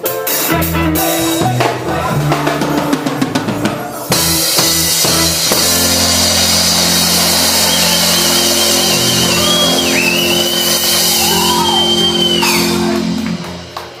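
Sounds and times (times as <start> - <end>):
reggae band final chord: 0.0 - 14.0.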